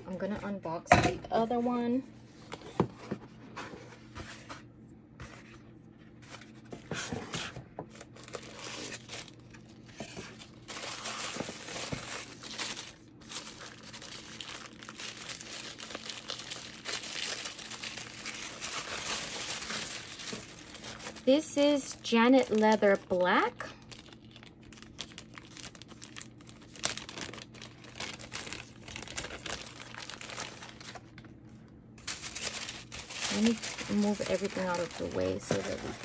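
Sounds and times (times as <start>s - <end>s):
tissue paper crinkling: 6.2s - 31.3s, 32.0s - 36.0s.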